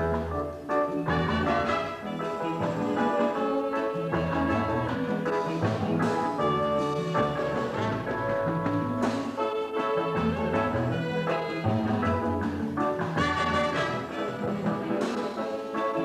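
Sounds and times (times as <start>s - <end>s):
live calypso band playing: 0.0s - 16.0s.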